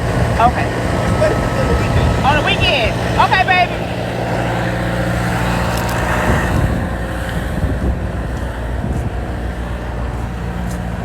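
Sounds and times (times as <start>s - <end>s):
engine idling: 0.0s - 11.0s
wind noise on microphone: 0.0s - 11.0s.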